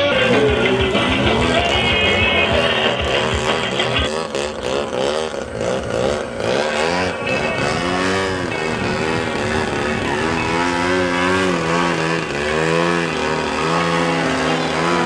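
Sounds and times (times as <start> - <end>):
model airplane engines: 0.0 - 15.0.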